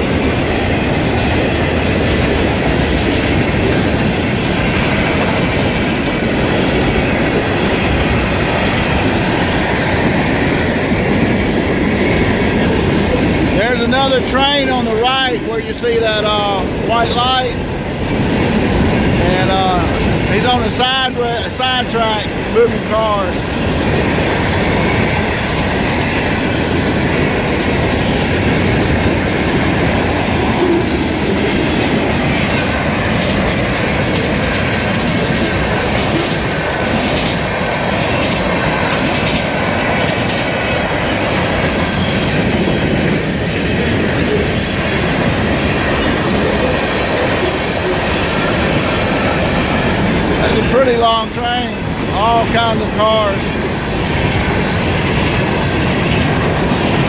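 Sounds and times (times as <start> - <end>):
freight train wheels rumbling: 0.0 - 57.0
wheels clicking over track: 0.0 - 57.0.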